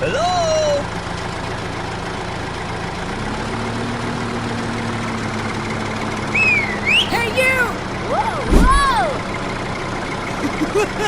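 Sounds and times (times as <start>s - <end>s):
engine idling: 0.1s - 11.0s.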